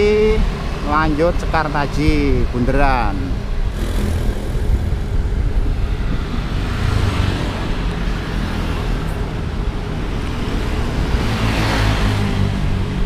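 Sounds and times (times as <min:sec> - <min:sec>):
street traffic noise: 0:00.0 - 0:13.0
wind rumbling on microphone: 0:01.5 - 0:13.0.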